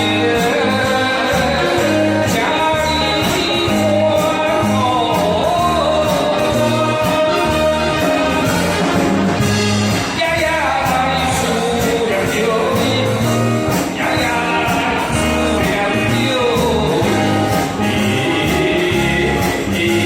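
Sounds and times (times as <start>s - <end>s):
man singing pop song: 0.0s - 20.0s.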